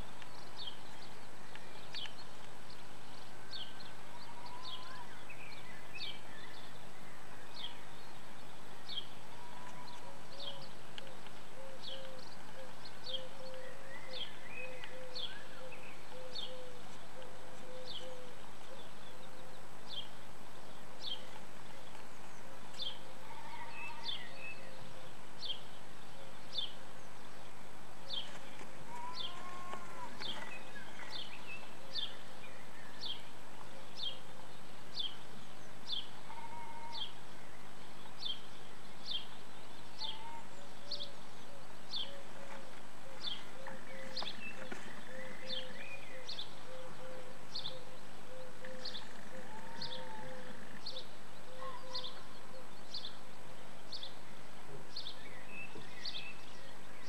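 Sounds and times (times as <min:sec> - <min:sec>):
fainter lower bird calls: 0:00.0 - 0:27.3, 0:28.0 - 0:57.0.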